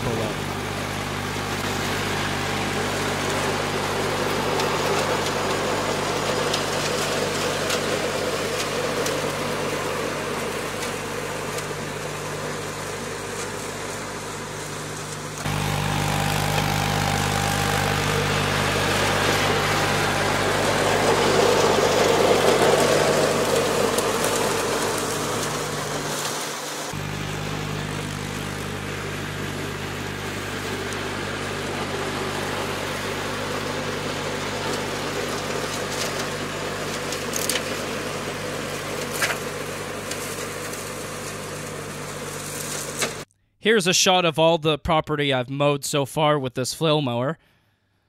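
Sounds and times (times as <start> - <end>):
tractor engine running: 0.0 - 43.3
flail mower chewing through brush: 1.6 - 43.3.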